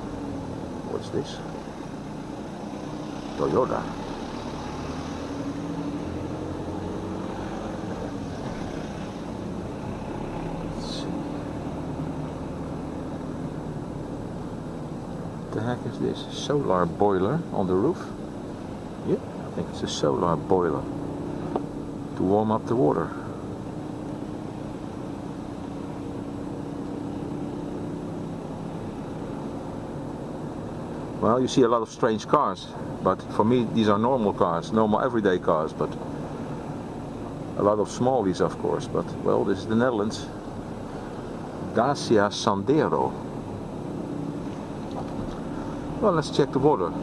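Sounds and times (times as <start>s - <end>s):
car engine hum and road noise: 0.0s - 47.0s.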